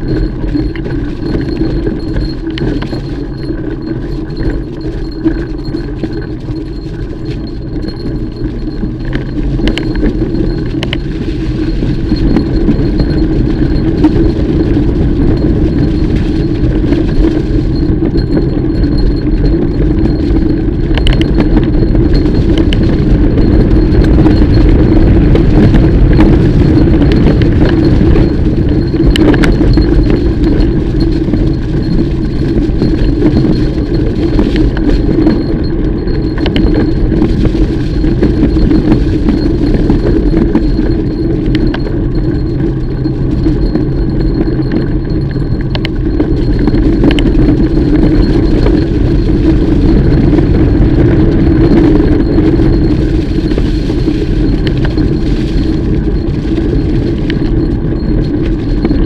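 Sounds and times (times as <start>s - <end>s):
bike clicks and rattles: 0.0s - 59.0s
mountain bike tyres rumbling on dirt: 0.0s - 59.0s.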